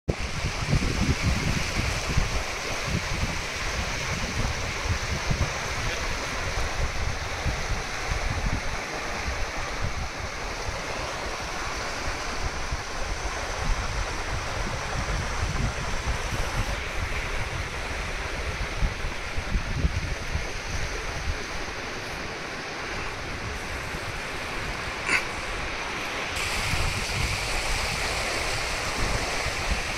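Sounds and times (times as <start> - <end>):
wind buffeting microphone: 0.1 - 29.9.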